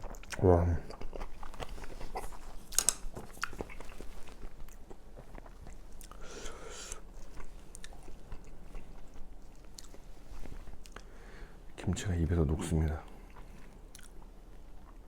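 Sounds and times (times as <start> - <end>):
person chewing food: 0.0 - 11.8, 13.0 - 15.0.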